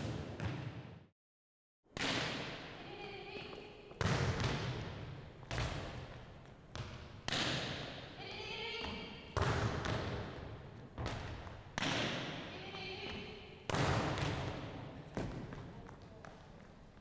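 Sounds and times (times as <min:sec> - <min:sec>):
volleyball smacks echoing in gym: 0:00.0 - 0:01.1, 0:01.9 - 0:02.8, 0:03.4 - 0:08.2, 0:08.8 - 0:16.7.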